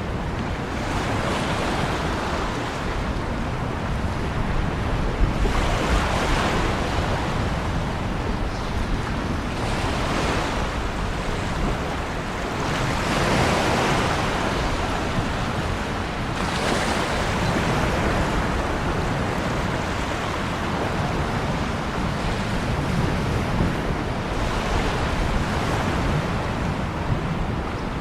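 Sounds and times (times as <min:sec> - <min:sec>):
ocean waves breaking on shore: 0:00.0 - 0:28.0.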